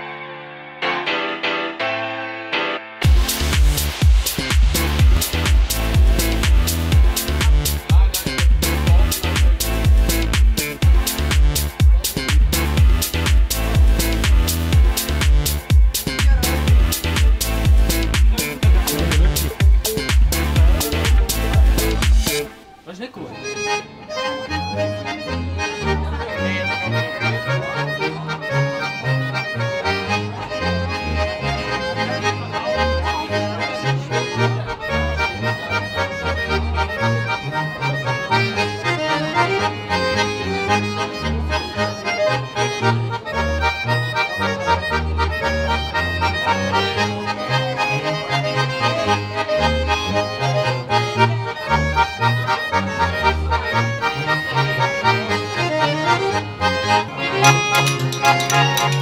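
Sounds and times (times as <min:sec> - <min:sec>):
accordion folk music: 0:00.0 - 0:59.0
steady bass line: 0:03.0 - 0:22.6, 0:24.6 - 0:59.0.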